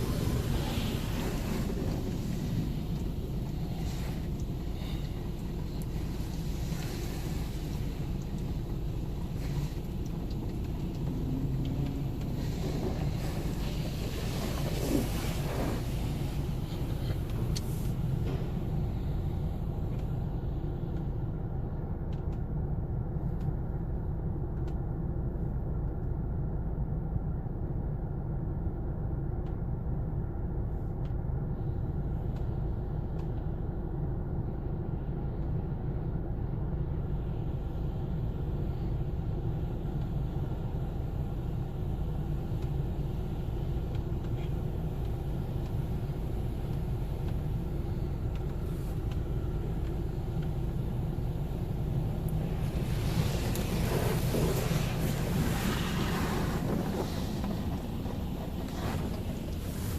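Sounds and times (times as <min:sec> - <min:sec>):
car engine rumble in cabin: 0:00.0 - 0:59.9.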